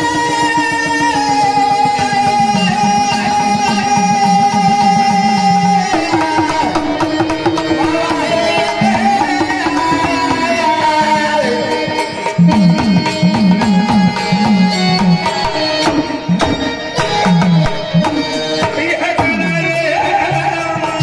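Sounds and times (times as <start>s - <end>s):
long held folk melody: 0.0s - 21.0s
hand drum rhythm: 0.1s - 21.0s.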